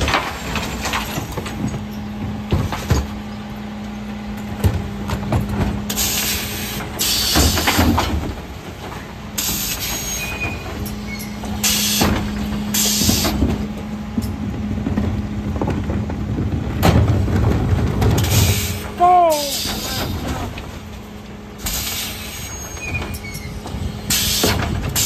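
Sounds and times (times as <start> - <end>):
truck engine hum: 0.0 - 25.0.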